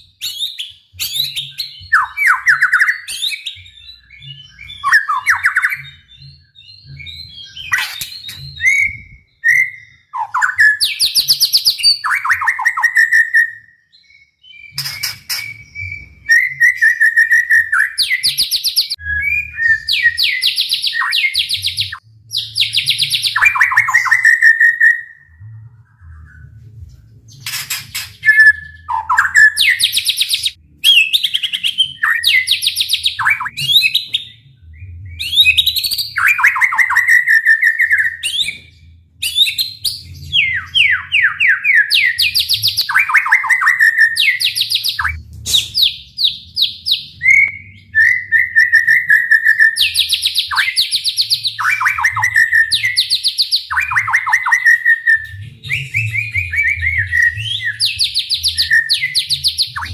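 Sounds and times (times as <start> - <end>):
songbird singing trills and whistles: 0.0 - 26.6, 27.3 - 59.9.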